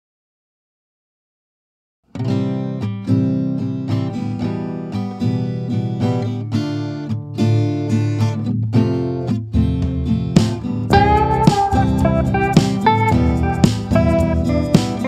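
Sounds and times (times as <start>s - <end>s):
acoustic guitar music: 2.1s - 15.0s.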